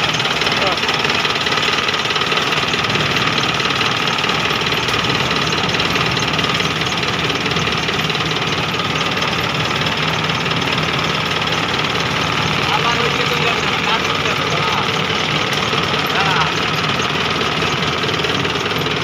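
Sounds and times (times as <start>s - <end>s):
diesel engine clattering: 0.0s - 19.0s.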